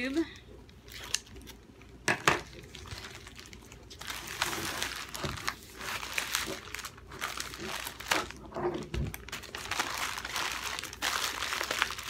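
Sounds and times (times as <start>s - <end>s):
wrapping crinkling and tearing: 0.7s - 12.0s.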